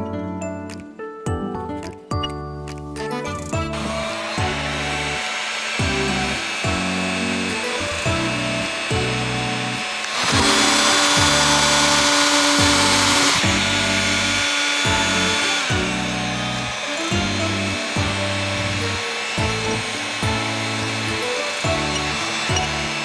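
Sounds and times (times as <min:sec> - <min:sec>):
background music with steady beat: 0:00.0 - 0:23.0
power tool running: 0:03.6 - 0:23.0.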